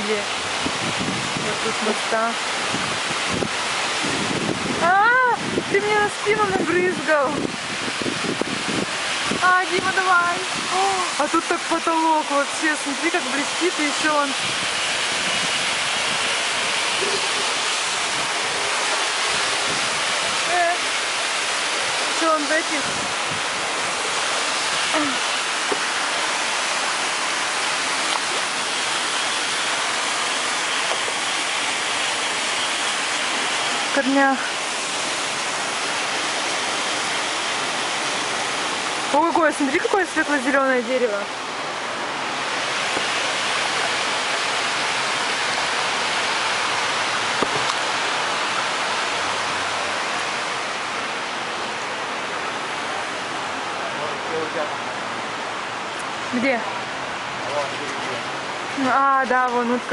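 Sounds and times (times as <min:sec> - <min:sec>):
fountain water rushing: 0:00.0 - 0:59.9.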